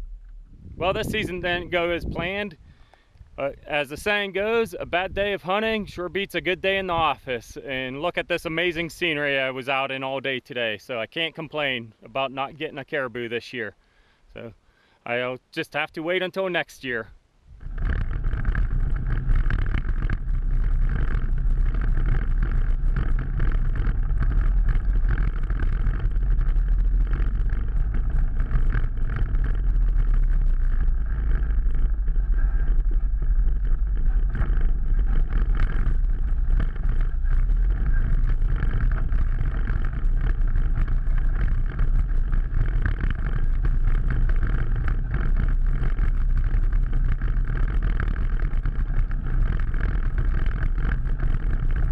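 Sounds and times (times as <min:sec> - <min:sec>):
off-road vehicle engine running: 0:00.0 - 0:09.5, 0:17.5 - 0:51.9.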